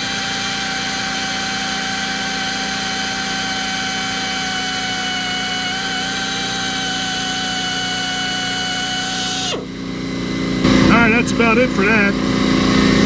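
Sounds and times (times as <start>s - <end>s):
air compressor pump hum: 0.0s - 13.0s
pneumatic drill whine: 0.0s - 13.0s.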